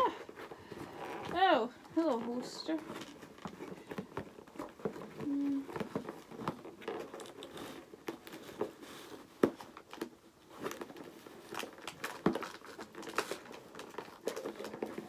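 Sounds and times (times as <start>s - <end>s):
cardboard crinkling and rustling: 0.0s - 15.0s.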